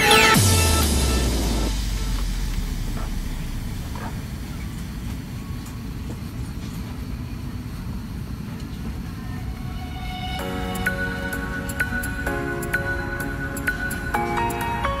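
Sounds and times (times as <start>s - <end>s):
airliner cabin rumble: 0.0s - 12.4s.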